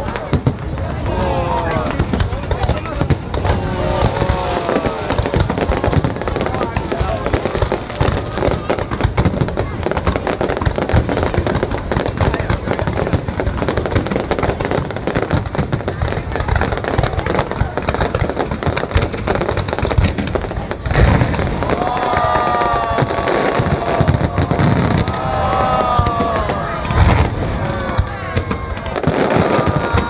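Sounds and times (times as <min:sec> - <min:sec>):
fireworks crackling: 0:00.0 - 0:30.0
loud firework bang: 0:01.7 - 0:30.0.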